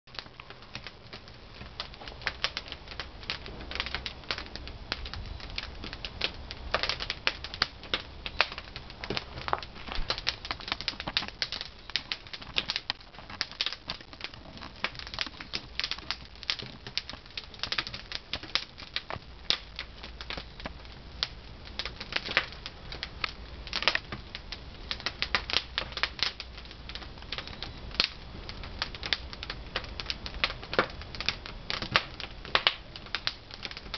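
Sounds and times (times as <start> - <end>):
firewood crackling: 0.1 - 33.9.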